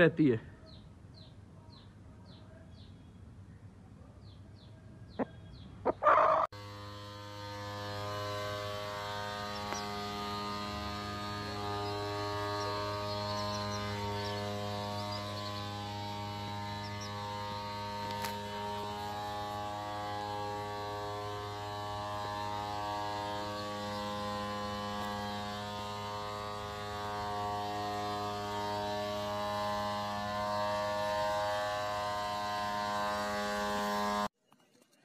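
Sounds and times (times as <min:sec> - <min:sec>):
electrical buzzing hum: 0:06.0 - 0:34.3.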